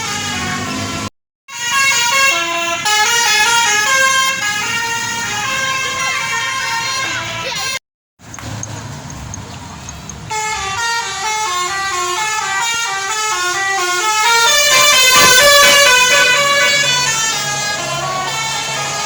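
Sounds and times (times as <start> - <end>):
musical air horn melody: 0.0 - 7.8, 10.3 - 19.0.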